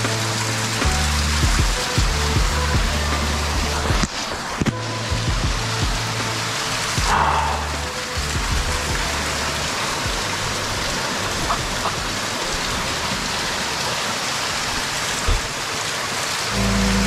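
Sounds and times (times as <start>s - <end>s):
water cascading down rock: 0.0s - 17.0s.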